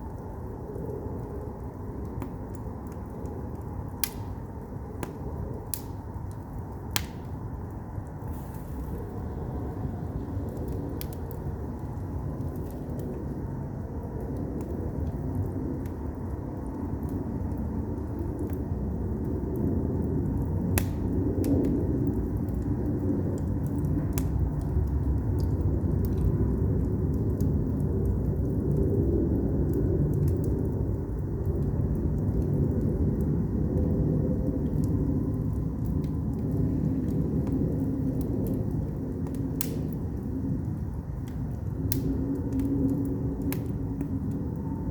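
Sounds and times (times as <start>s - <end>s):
fire crackles and sharp pops: 0.0s - 44.9s
low rumble of fire: 0.0s - 44.9s.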